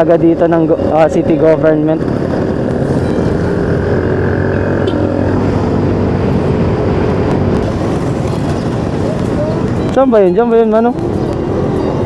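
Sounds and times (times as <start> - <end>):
scooter engine cruising: 0.0 - 12.0
wind and road noise: 0.0 - 12.0.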